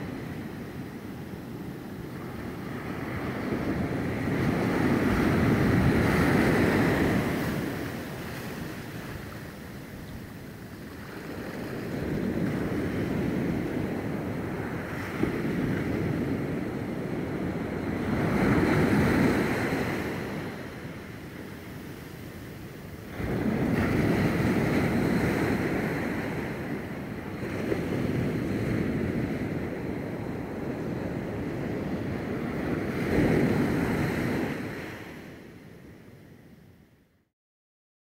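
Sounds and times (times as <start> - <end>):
sea waves washing around pilings: 0.0 - 35.6.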